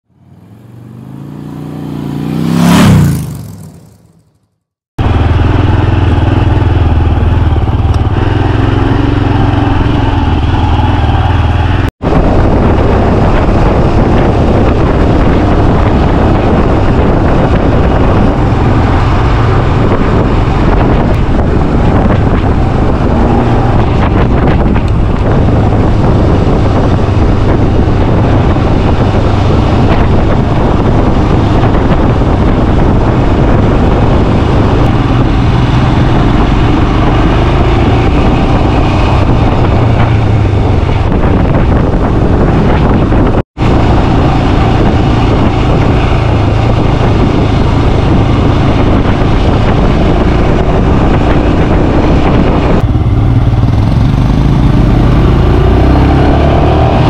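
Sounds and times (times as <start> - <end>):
vehicle engine passing by: 0.1 - 4.2, 5.0 - 57.0
motorcycle engine running: 0.1 - 57.0
wind rumble on microphone: 5.0 - 57.0.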